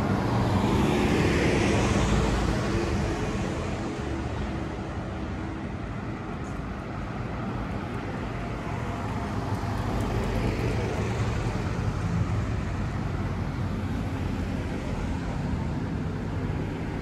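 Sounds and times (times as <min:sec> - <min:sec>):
passing cars rumble and hiss: 0:00.0 - 0:17.0.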